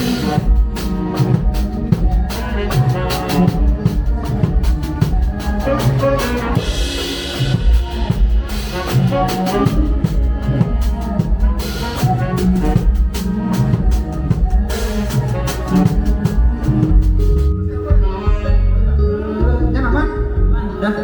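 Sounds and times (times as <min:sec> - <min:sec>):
drum kit beat: 0:00.0 - 0:18.4
band music: 0:00.0 - 0:21.0.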